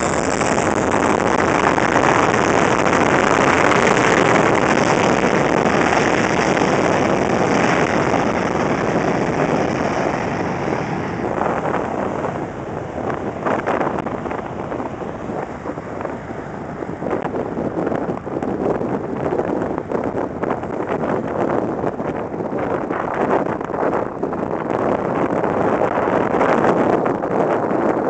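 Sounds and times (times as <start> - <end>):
jet engines roaring at takeoff: 0.0 - 28.0
wind buffeting microphone: 0.0 - 28.0.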